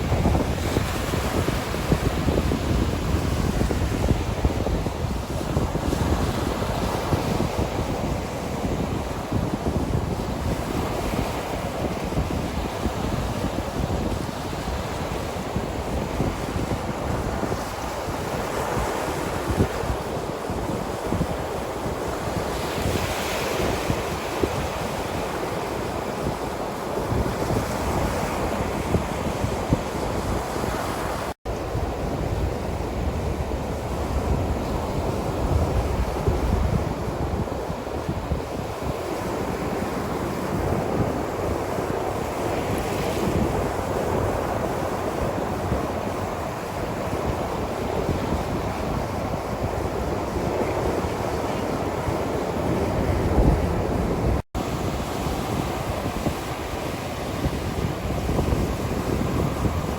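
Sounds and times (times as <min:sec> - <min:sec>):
ocean surf washing onto shore: 0:00.0 - 0:59.9
wind: 0:00.0 - 0:59.9.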